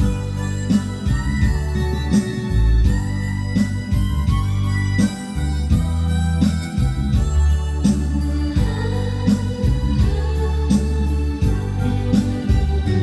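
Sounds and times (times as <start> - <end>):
regular drum beat: 0.0 - 13.0
steady bass: 0.0 - 13.0.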